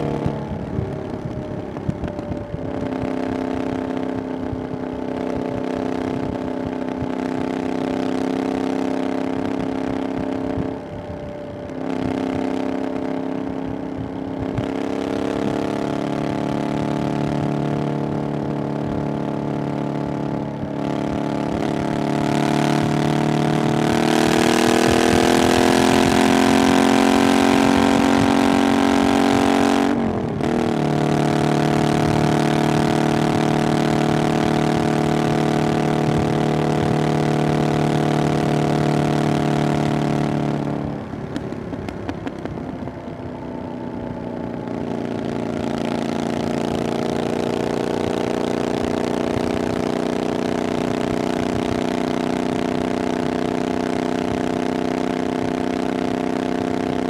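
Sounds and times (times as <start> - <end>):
motorcycle engine under way: 0.0 - 57.0.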